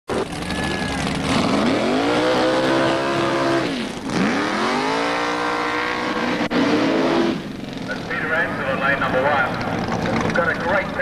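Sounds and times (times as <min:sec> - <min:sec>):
racing car engine revving: 0:00.1 - 0:11.0.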